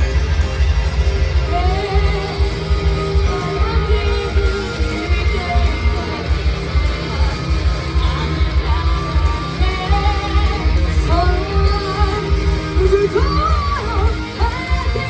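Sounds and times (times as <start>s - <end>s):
loud rock music: 0.0s - 15.0s
person singing: 1.3s - 15.0s.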